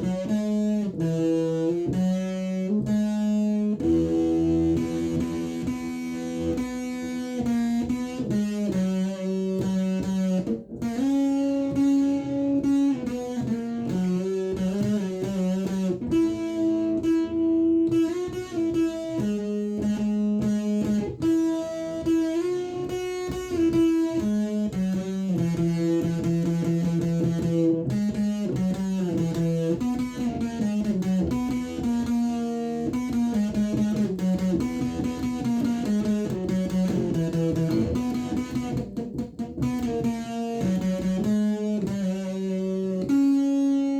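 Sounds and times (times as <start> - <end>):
fuzz electric guitar solo: 0.0 - 43.9.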